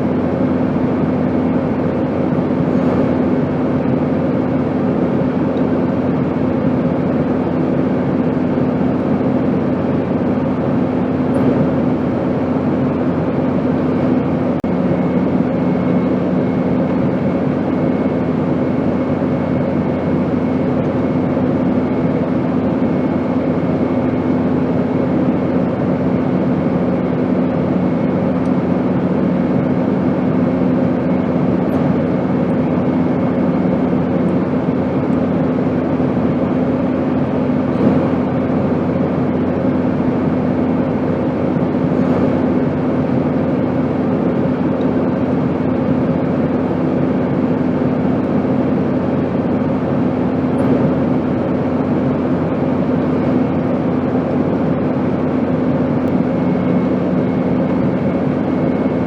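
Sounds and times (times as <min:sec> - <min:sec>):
airplane engine and airflow rush: 0:00.0 - 0:59.0
constant low hum: 0:00.0 - 0:59.0.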